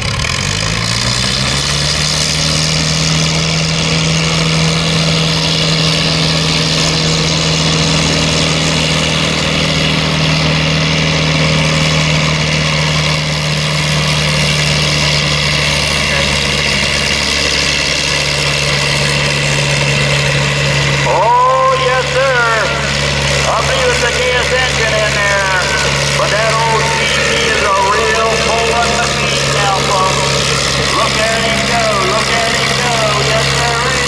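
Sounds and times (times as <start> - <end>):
tractor engine revving under load: 0.0 - 34.0.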